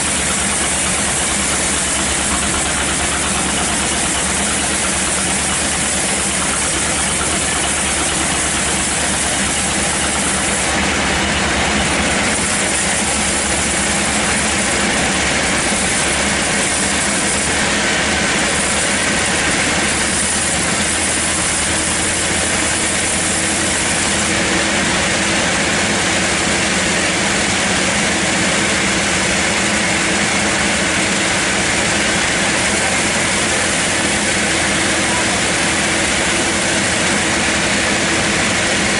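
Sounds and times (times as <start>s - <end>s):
rushing saw noise: 0.0s - 38.9s
sawmill engine drone: 0.0s - 38.9s.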